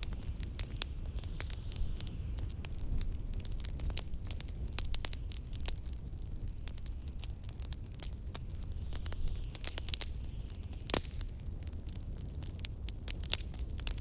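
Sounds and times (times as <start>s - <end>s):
low rumble of wind: 0.0s - 14.0s
wood fire crackling: 0.0s - 14.0s.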